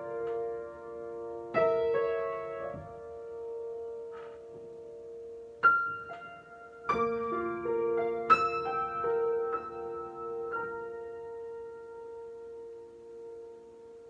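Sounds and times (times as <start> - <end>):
solo piano improvisation: 0.0 - 14.0.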